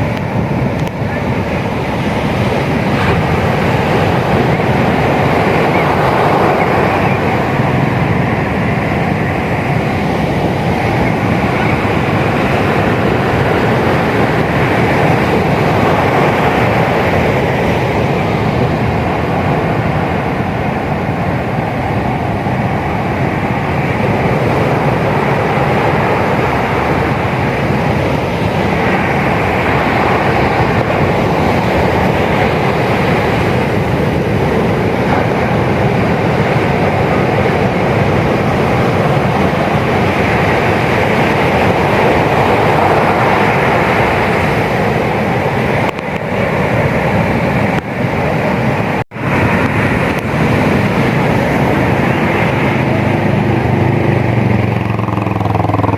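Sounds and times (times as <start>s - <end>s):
ocean surf breaking: 0.0s - 55.9s.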